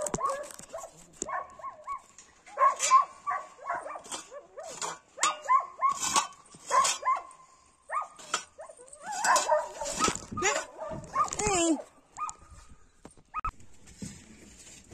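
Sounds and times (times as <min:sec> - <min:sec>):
dogs whining and yipping: 0:00.0 - 0:11.6, 0:12.2 - 0:12.7.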